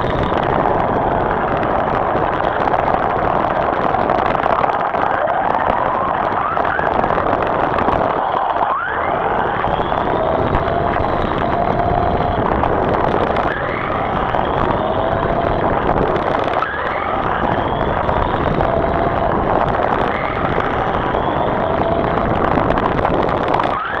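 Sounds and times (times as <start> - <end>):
loud rushing noise: 0.0 - 24.0.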